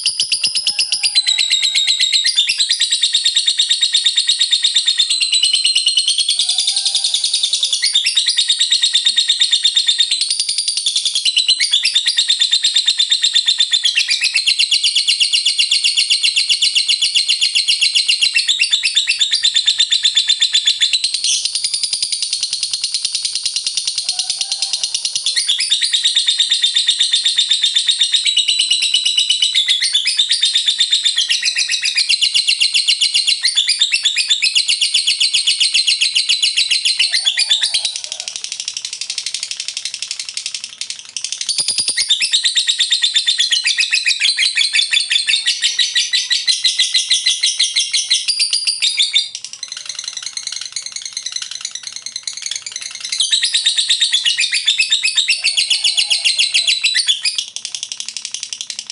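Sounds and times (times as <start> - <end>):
lovebird rattling trill: 0.0 - 58.9.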